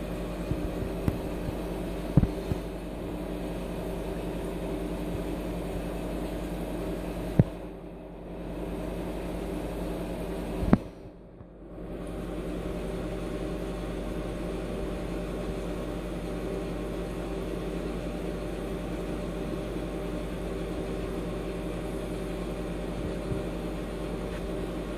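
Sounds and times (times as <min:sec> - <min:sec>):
machine hum with hiss: 0:00.0 - 0:24.9.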